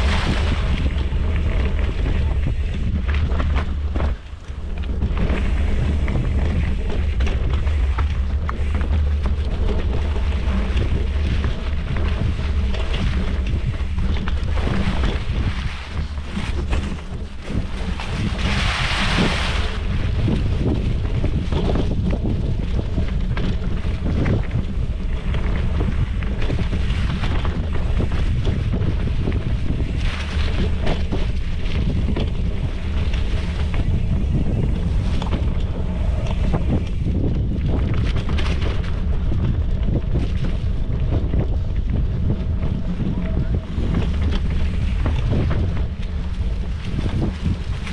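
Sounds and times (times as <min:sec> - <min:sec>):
bike knocks and rattles: 0:00.0 - 0:47.9
bike tyres rolling over dirt and rocks: 0:00.0 - 0:47.9
wind buffeting microphone: 0:00.0 - 0:47.9.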